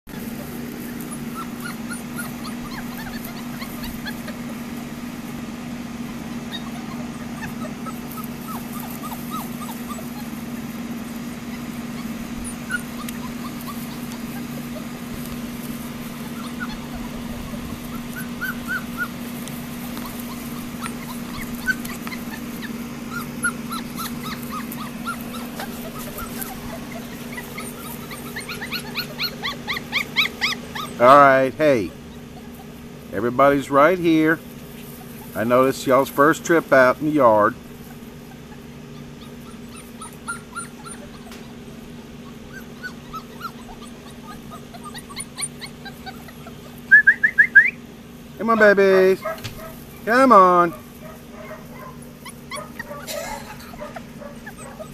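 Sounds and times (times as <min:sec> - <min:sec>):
puppies whimpering and yipping: 0:00.1 - 0:54.9.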